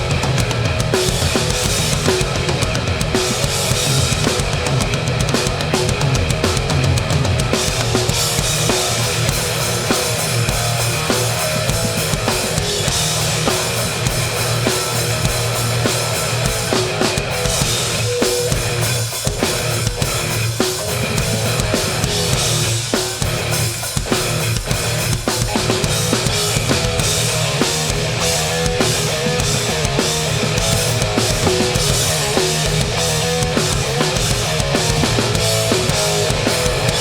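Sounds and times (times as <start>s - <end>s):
distorted electric guitars: 0.0s - 37.0s
heavy hardcore music: 0.0s - 37.0s.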